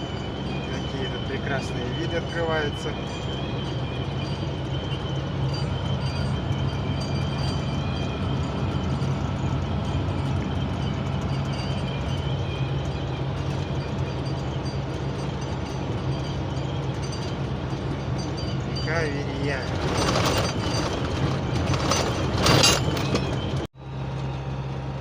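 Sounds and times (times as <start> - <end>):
high cab whistle: 0.0 - 23.7
vehicle engine and road drone: 0.0 - 25.0.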